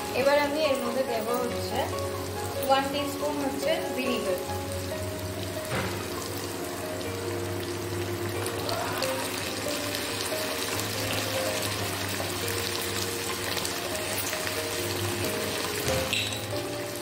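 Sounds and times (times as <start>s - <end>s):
soft background music: 0.0s - 17.0s
vegetables sizzling in wok: 0.0s - 17.0s.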